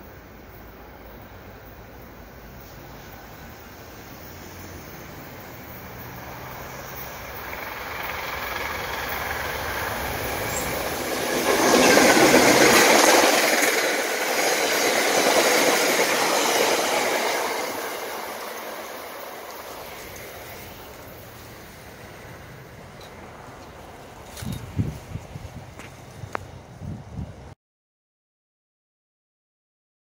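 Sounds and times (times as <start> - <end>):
passenger train passing: 0.0 - 27.5.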